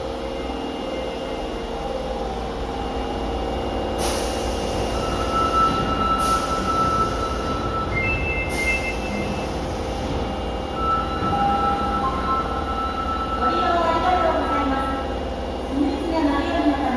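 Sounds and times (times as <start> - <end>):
subway train rumbling: 0.0 - 16.9.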